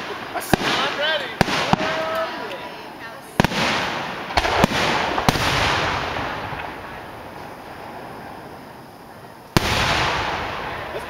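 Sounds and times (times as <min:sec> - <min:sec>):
fireworks shells bursting: 0:00.0 - 0:02.6, 0:03.2 - 0:11.0.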